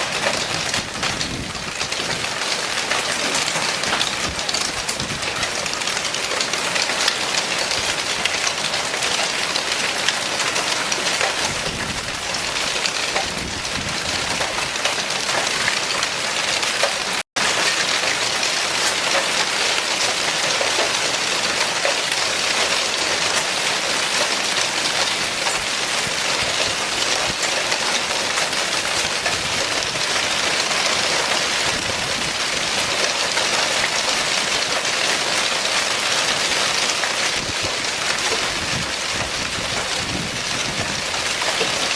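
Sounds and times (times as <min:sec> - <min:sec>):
hail and rain on hard surfaces: 0:00.0 - 0:41.9.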